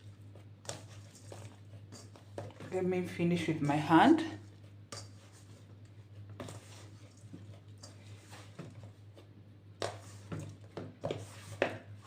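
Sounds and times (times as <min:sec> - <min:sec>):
hand squishing bread dough: 0:00.0 - 0:12.0.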